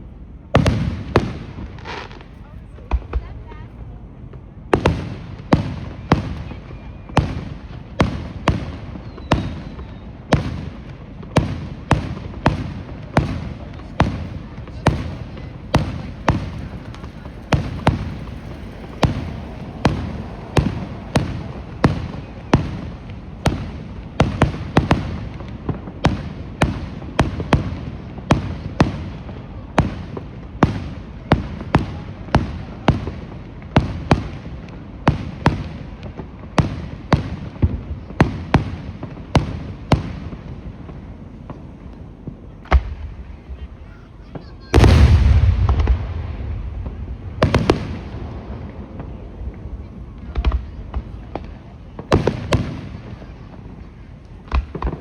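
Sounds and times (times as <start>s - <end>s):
fireworks bangs and booms: 0.3s - 55.0s.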